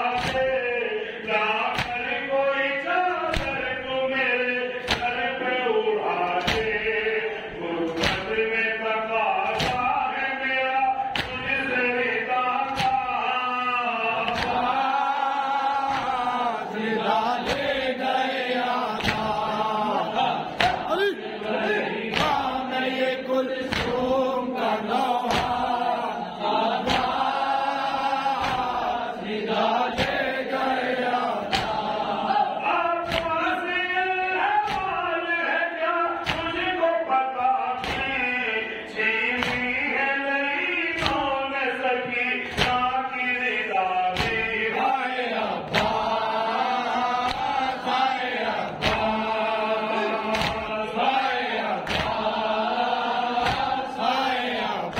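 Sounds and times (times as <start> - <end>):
group of men chanting: 0.0 - 54.9
man reciting a lament: 0.0 - 54.9.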